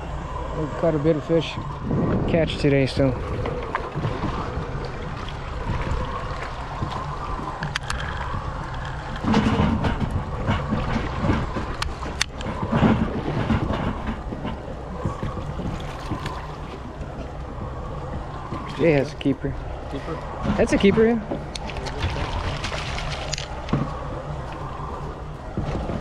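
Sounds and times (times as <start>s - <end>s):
steady low rumble: 0.0s - 26.0s
wind buffeting microphone: 0.0s - 26.0s.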